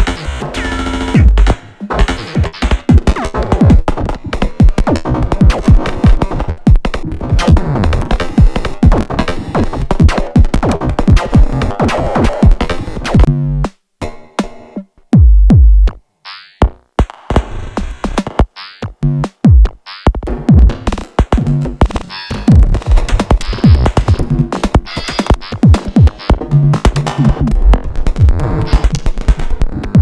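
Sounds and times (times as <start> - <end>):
drum-machine beat: 0.0 - 13.8, 15.2 - 16.0, 16.6 - 30.0.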